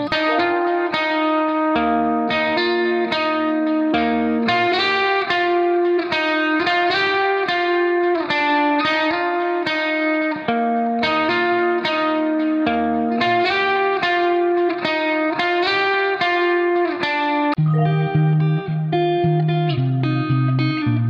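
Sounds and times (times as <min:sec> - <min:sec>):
plucked guitar melody: 0:00.0 - 0:21.0.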